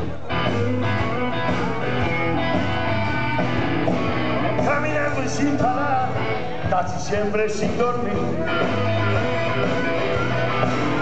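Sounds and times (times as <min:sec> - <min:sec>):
drum kit: 0:00.0 - 0:11.0
electric guitar lead: 0:00.0 - 0:11.0.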